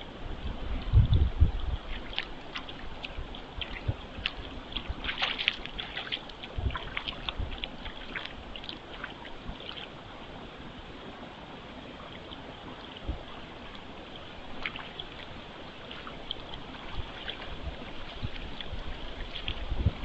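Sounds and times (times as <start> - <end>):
hooves splashing in water: 0.7 - 10.3, 11.9 - 20.0.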